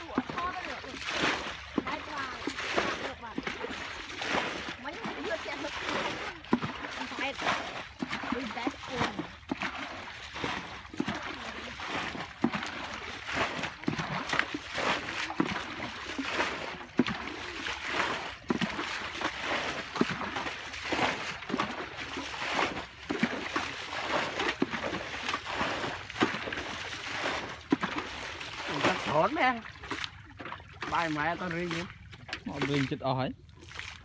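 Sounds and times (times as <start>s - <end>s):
splashing in muddy water: 0.0s - 34.0s.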